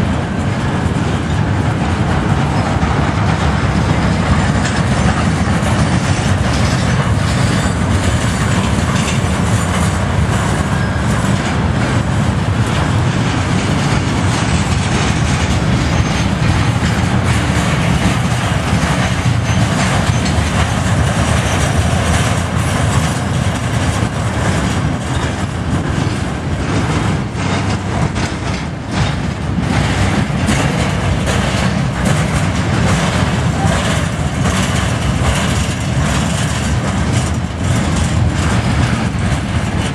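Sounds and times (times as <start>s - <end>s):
train wheel clicks: 0.0s - 39.9s
train wheels rumbling on rail: 0.0s - 39.9s.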